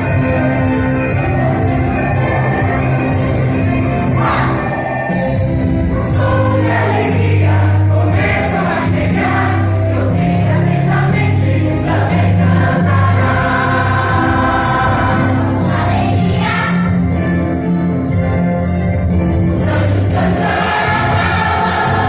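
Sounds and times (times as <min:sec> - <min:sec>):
choir singing: 0:00.0 - 0:17.3, 0:19.6 - 0:22.0
musical accompaniment: 0:00.0 - 0:22.0.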